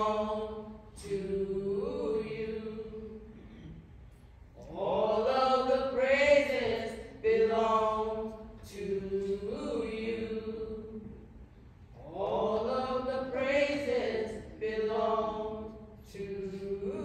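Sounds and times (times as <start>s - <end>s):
person singing a cappella: 0.0s - 3.3s, 4.6s - 11.1s, 12.0s - 17.0s.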